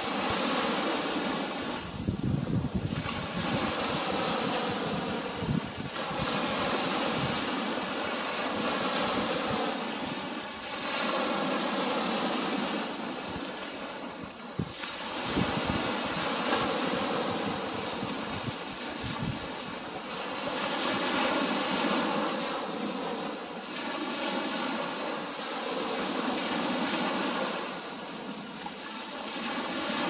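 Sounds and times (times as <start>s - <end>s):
ocean surf breaking on beach: 0.0s - 30.0s.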